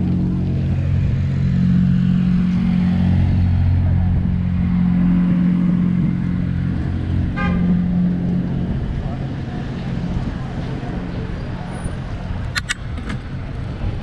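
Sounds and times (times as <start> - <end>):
vehicle engines humming: 0.0 - 14.0.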